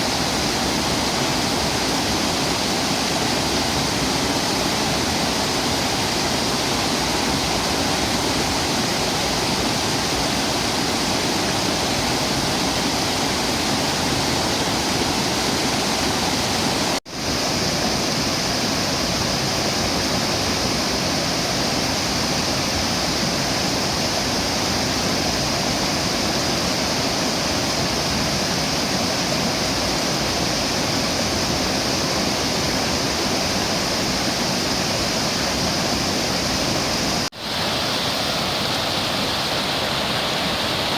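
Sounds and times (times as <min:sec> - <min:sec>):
waterfall rushing over rocks: 0:00.0 - 0:40.9.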